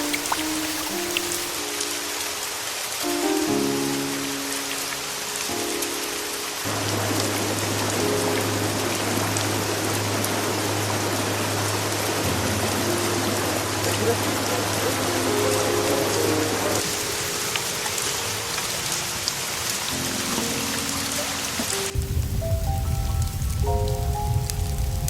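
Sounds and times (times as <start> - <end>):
soft calm background music: 0.0 - 25.0
steady rain falling: 0.0 - 25.0.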